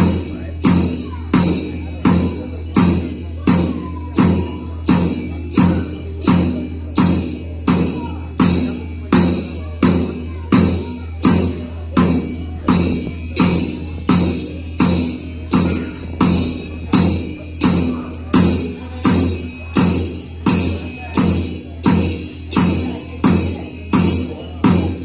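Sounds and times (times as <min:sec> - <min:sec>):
drum beating steadily: 0:00.0 - 0:25.0
ringing percussion: 0:00.0 - 0:25.0.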